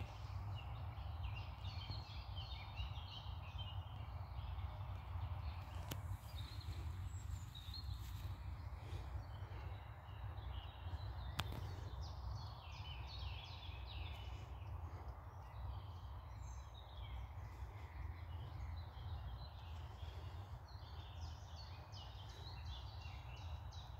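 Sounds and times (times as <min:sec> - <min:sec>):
songbirds chirping and singing: 0:00.0 - 0:23.9
steady low rumble: 0:00.0 - 0:23.9.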